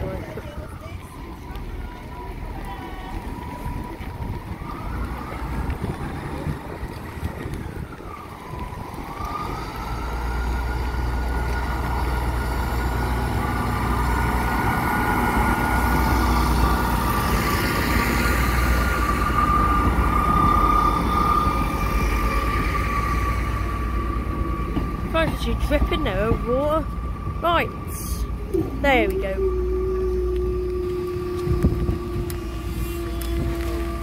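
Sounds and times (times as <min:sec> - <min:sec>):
low rumble of train passing: 0:00.0 - 0:34.0
train engine and transmission whine: 0:00.0 - 0:34.0.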